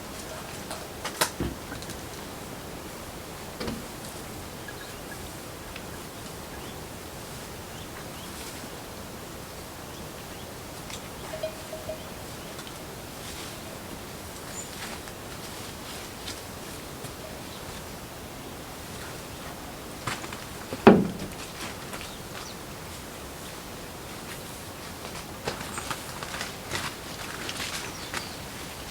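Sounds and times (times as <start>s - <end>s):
background hiss: 0.0s - 28.9s.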